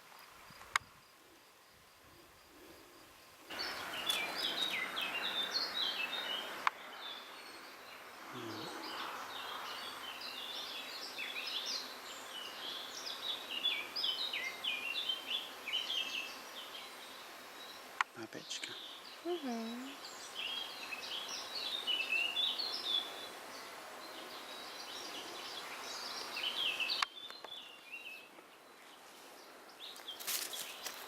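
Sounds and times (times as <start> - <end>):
background hiss: 0.0 - 31.0
songbirds chirping: 0.5 - 31.0.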